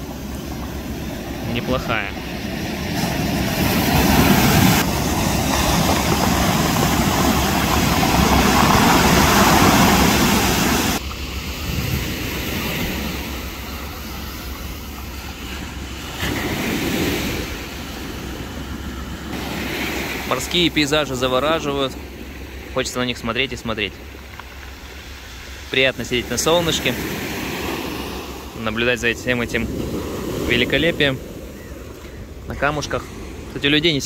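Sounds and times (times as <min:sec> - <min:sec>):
sea waves breaking: 0:00.0 - 0:34.0.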